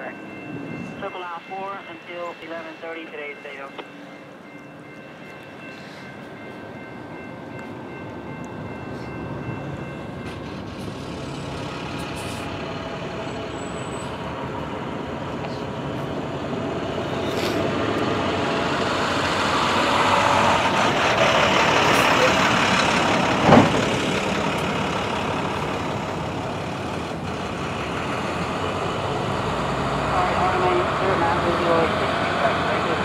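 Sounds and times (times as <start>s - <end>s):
diesel locomotive engine: 0.0s - 33.0s.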